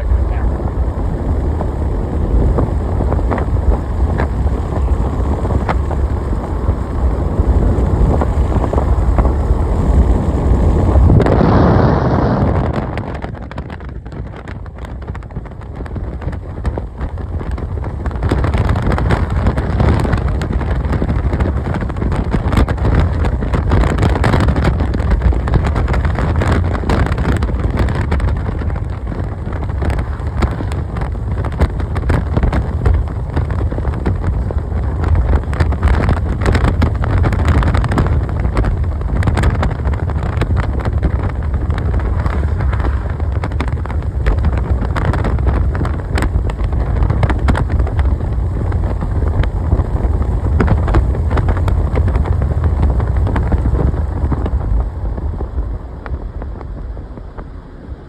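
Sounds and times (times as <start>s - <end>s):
moving car rumble: 0.0s - 58.0s
wind buffeting microphone: 0.0s - 58.0s.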